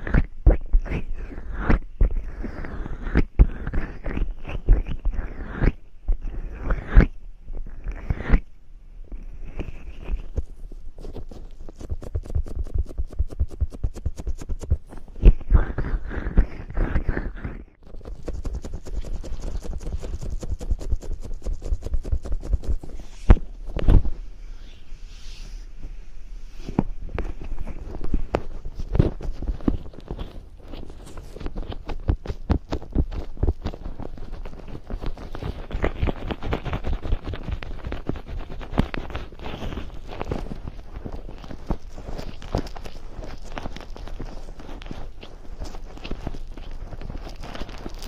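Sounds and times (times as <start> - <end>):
slick sticky rubbing strokes: 9.4 - 48.0.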